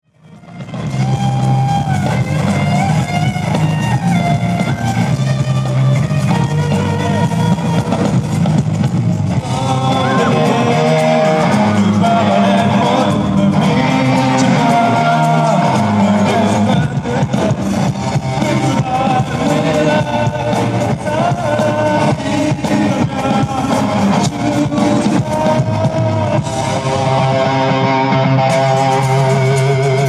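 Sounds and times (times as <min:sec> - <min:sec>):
electric guitar: 0:00.1 - 0:30.0
heavy bass line: 0:00.1 - 0:30.0
live rock band playing: 0:00.1 - 0:30.0.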